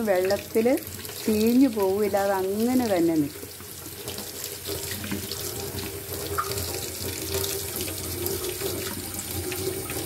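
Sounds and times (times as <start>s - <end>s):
tap water running into a sink: 0.0s - 10.0s.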